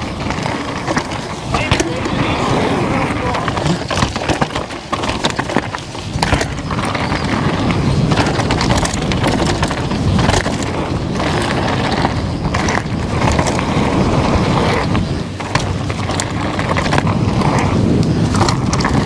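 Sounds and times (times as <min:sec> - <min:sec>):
bike rattling over rough trail: 0:00.0 - 0:19.0
wind buffeting microphone: 0:00.0 - 0:19.0.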